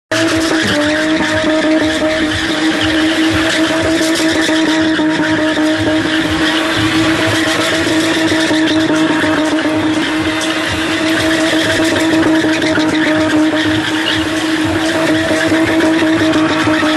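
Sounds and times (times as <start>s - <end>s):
car engine at high revs: 0.1s - 16.9s
tyres screeching on tarmac: 0.1s - 16.9s.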